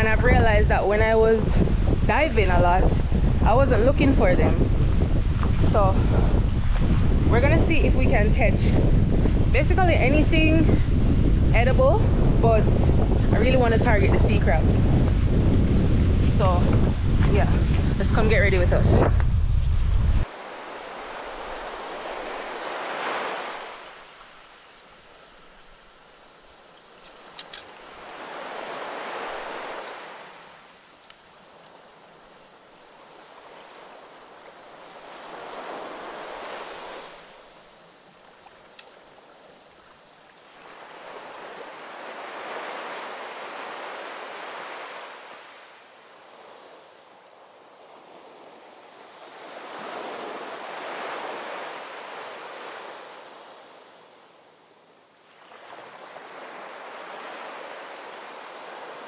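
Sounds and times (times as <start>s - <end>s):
ocean waves washing onto shore: 0.0s - 19.4s, 20.2s - 59.0s.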